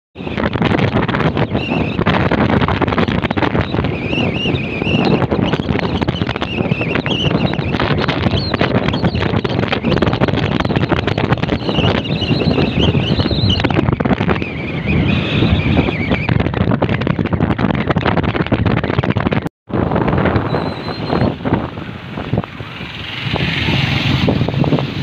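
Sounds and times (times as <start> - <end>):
motorcycle engine and road noise: 0.2 - 25.0
wind buffeting microphone: 0.2 - 25.0.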